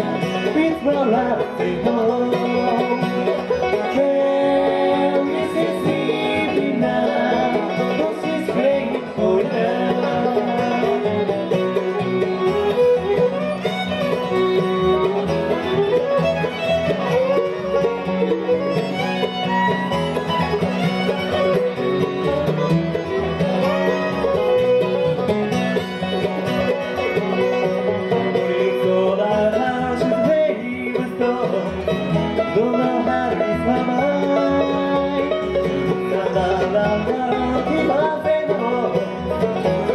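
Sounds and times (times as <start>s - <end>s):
bluegrass band playing: 0.0s - 39.9s.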